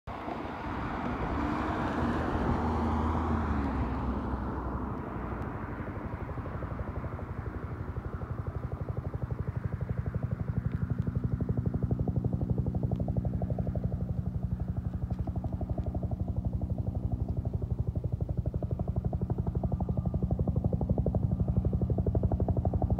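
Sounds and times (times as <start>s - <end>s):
turbine engine noise: 0.1s - 22.9s
helicopter rotor beating: 3.8s - 22.9s.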